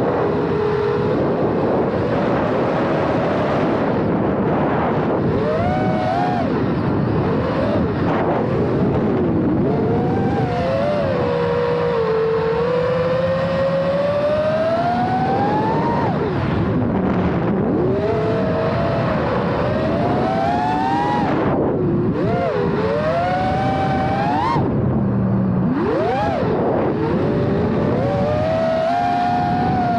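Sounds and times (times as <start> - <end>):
drone motors whining: 0.0 - 29.9.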